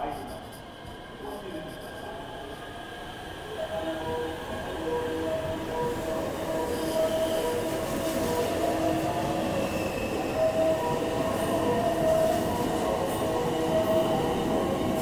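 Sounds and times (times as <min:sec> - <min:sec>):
electric train rolling rumble: 0:00.0 - 0:15.0
train whining tones: 0:00.0 - 0:15.0.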